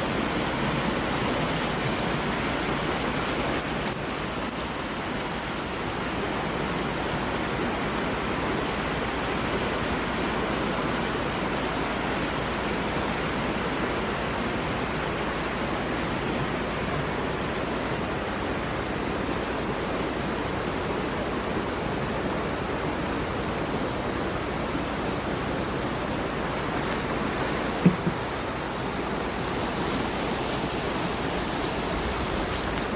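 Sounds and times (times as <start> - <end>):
creek water flowing over rocks: 0.0 - 32.9.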